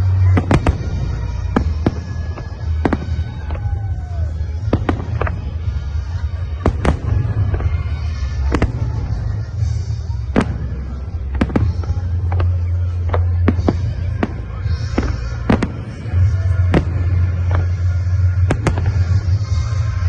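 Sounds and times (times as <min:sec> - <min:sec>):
fireworks booming: 0:00.0 - 0:20.0
high firework crackling: 0:00.0 - 0:20.0
sharp firework cracks: 0:00.2 - 0:20.0.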